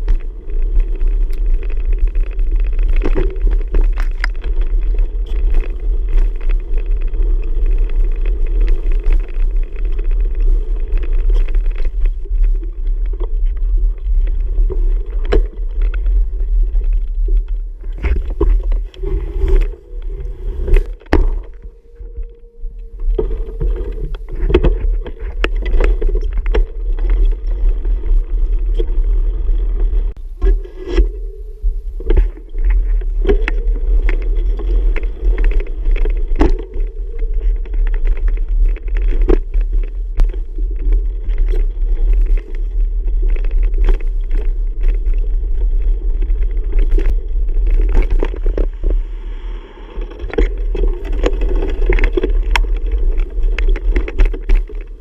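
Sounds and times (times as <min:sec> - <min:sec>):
bicycle riding rumble and wind: 0:00.0 - 0:55.0.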